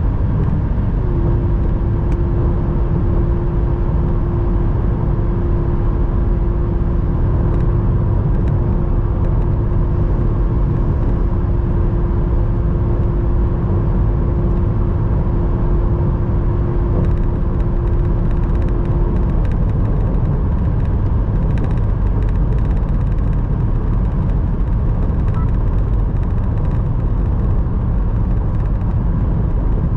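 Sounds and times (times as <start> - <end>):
low rumble: 0.0 - 29.9
wind and tyre noise: 0.0 - 29.9.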